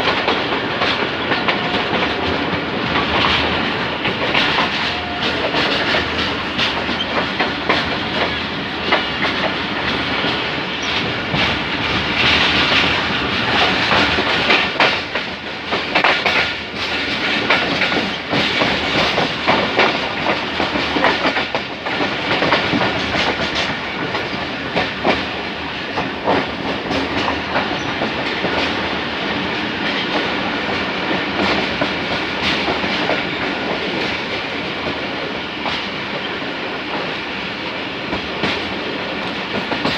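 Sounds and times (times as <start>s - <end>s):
train rumble and hiss: 0.0s - 39.9s
train wheels clattering over rail joints: 0.0s - 39.9s.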